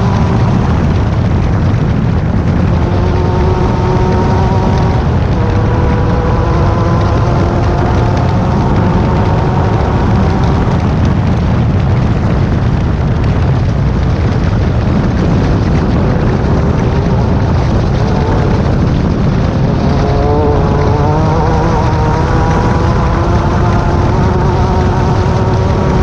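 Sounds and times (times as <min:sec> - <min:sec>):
race car engine: 0:00.0 - 0:26.0
rumble of wind and rough ground: 0:00.0 - 0:26.0.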